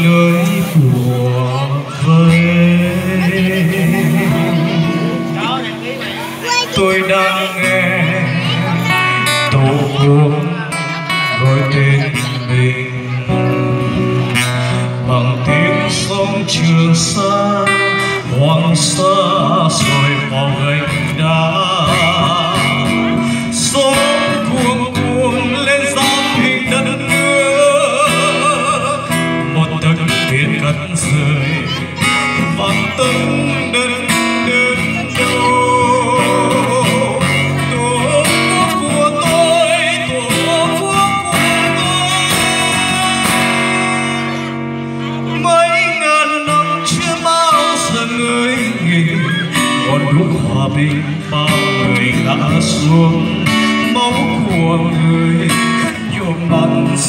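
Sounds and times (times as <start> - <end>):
acoustic guitar: 0.0 - 57.0
man singing: 0.0 - 57.0.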